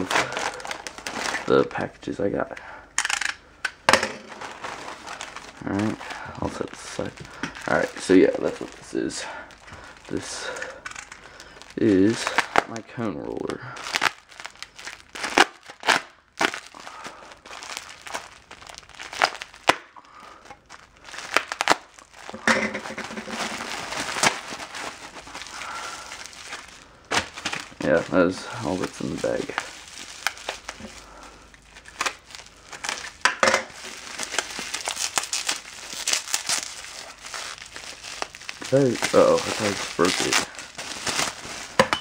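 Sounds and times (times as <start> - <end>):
plastic packaging crinkling: 0.0 - 42.0.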